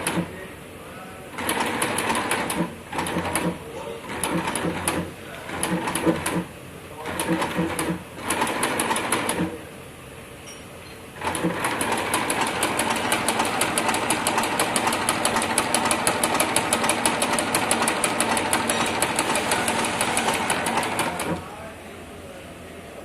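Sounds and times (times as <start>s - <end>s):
sewing machine stitching: 0.0s - 0.3s, 1.4s - 9.6s, 11.2s - 21.4s.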